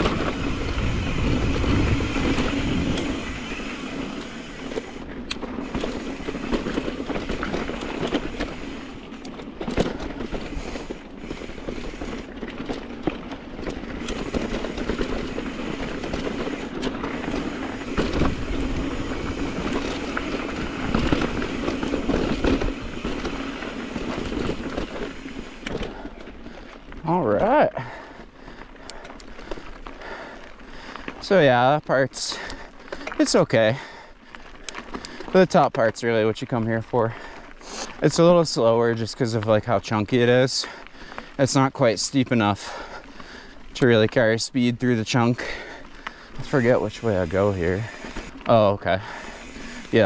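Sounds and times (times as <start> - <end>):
bike knocking and rattling: 0.0 - 50.0
bike tyre and wind noise: 0.0 - 50.0.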